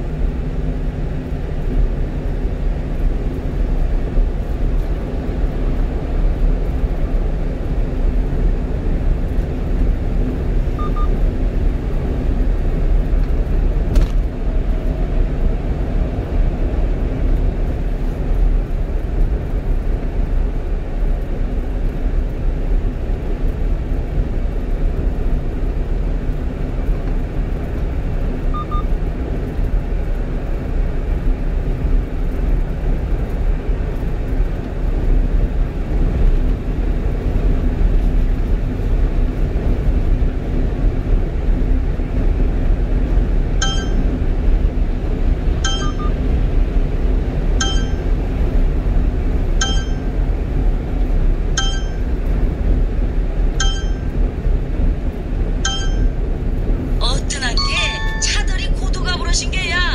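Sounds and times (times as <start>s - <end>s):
truck engine and tyre rumble: 0.0s - 59.9s.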